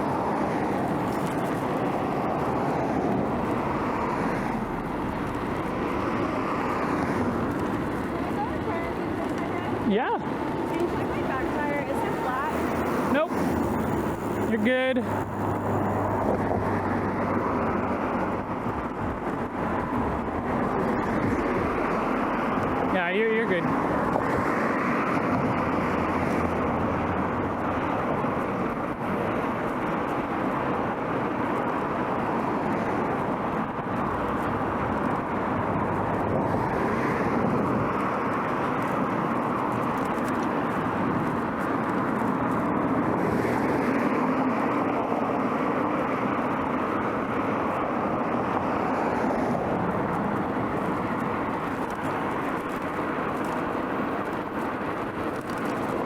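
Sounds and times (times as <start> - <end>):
bicycle tyres rolling: 0.0 - 56.0
passing traffic: 0.0 - 56.0.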